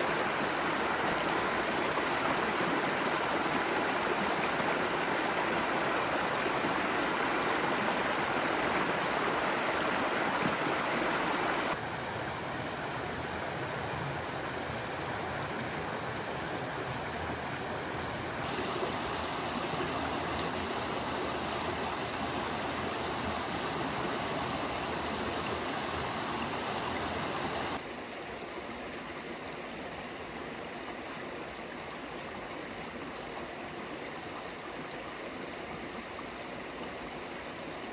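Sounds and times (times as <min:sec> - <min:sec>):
creek babbling over rocks: 0:00.0 - 0:37.9.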